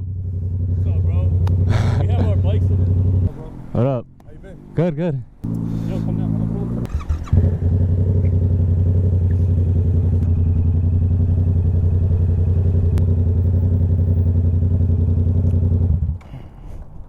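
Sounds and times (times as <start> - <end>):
motorcycle engine idling: 0.0 - 4.3, 5.4 - 16.5.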